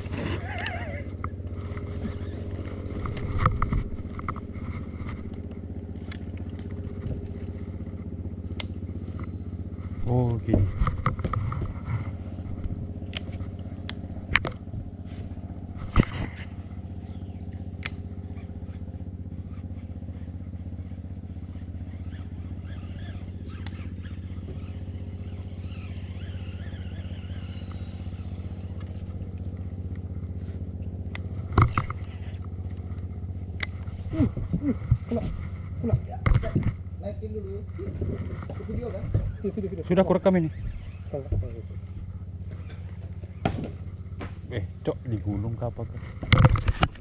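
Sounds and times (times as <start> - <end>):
boat engine idling: 0.0 - 47.0.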